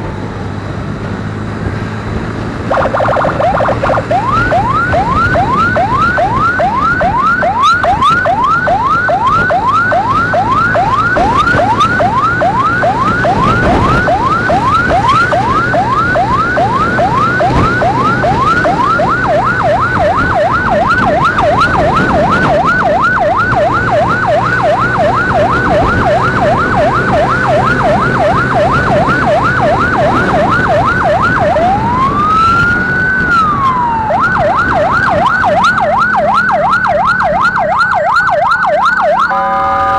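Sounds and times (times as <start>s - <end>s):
motor and road noise: 0.0s - 39.9s
electronic siren yelping: 2.7s - 39.9s.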